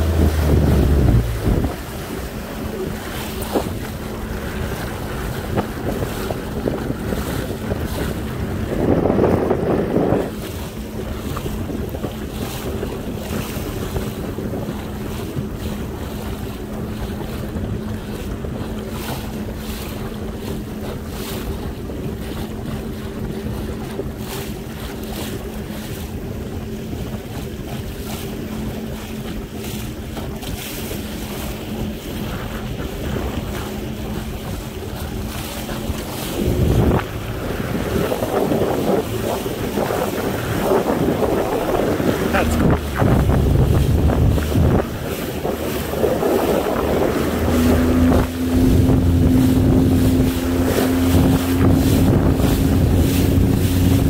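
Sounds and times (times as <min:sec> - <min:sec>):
jet ski engine humming: 0:00.0 - 0:54.0
water splashing on hull: 0:00.0 - 0:54.0
wind buffeting microphone: 0:00.0 - 0:54.0.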